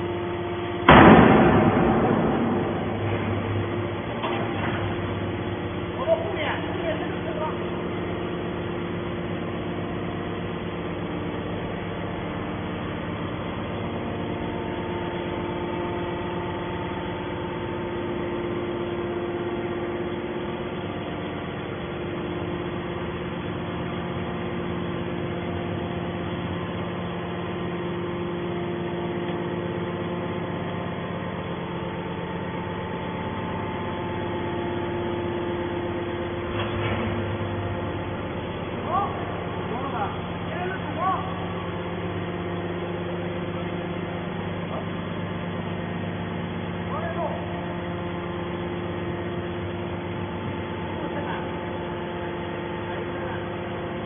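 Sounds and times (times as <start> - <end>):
hydraulic power unit humming: 0.0 - 54.0.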